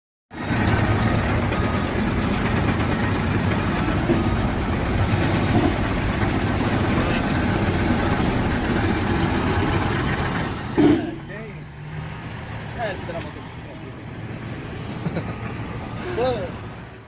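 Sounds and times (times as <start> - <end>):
heavy diesel engine running: 0.3 - 17.0.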